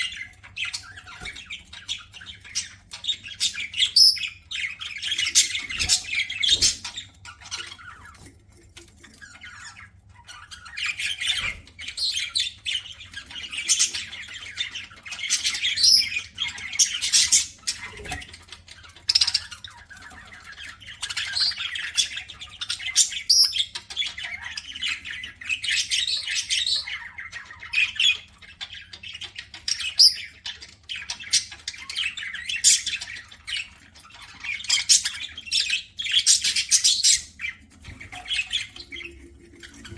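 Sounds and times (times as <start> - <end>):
budgerigars chattering and squawking: 0.0 - 8.3, 8.9 - 39.9.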